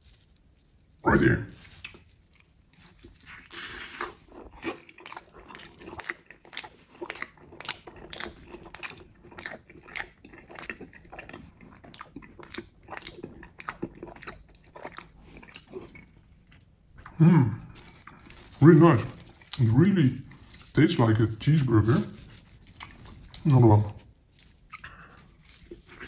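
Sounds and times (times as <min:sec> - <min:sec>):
chewing crunchy pizza: 0:00.0 - 0:26.0.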